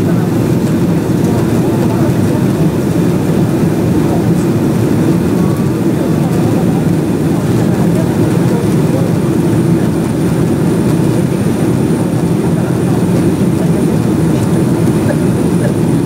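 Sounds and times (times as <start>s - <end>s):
jet engine cabin rush: 0.0s - 16.0s.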